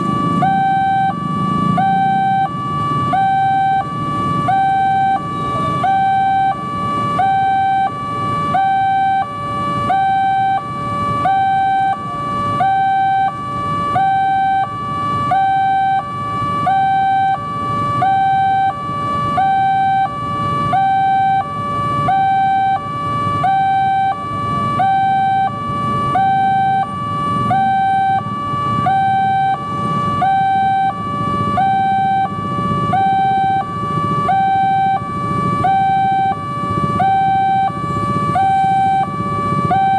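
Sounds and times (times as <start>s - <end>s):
motorcycle traffic rumble: 0.0s - 39.9s
two-tone crossing alarm: 0.0s - 39.9s.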